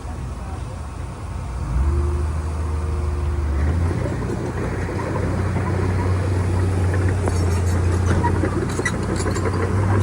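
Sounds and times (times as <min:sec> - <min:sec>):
heavy diesel engine running: 0:00.0 - 0:10.0.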